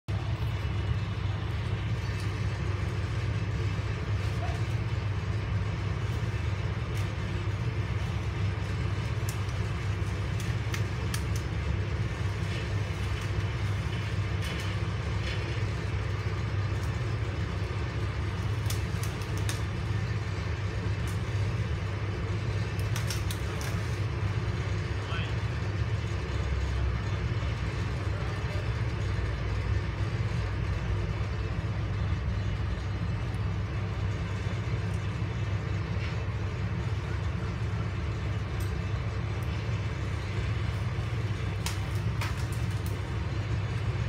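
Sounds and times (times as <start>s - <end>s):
low machinery engine drone: 0.0s - 44.0s.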